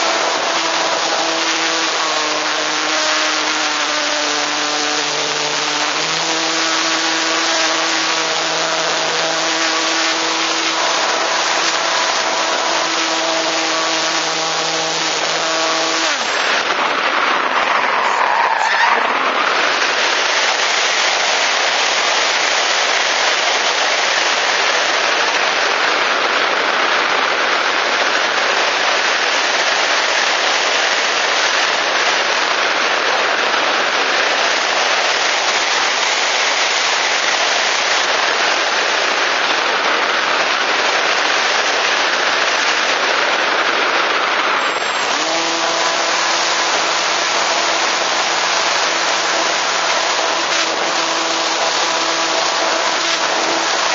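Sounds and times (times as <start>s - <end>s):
electric motor hum: 0.0s - 26.0s, 28.6s - 53.9s.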